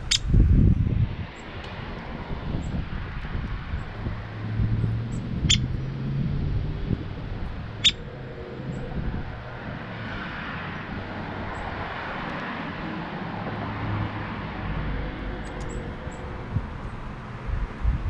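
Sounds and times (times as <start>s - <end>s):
car passing: 0.0s - 18.0s.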